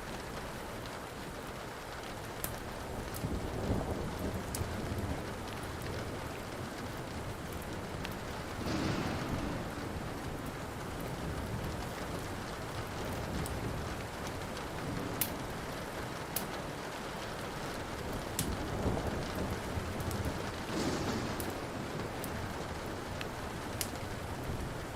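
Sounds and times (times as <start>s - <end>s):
steady rain: 0.0s - 24.9s
wood fire crackling and popping: 0.0s - 24.9s
low rumbling thunder: 2.8s - 24.9s.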